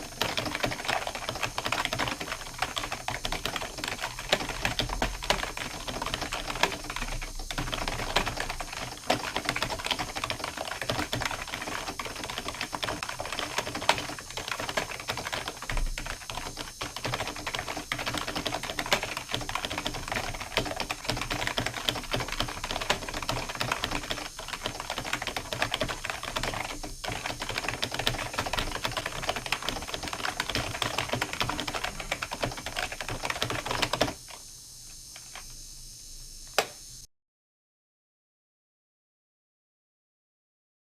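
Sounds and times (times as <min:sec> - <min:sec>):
fast typing on keyboard: 0:00.0 - 0:34.2.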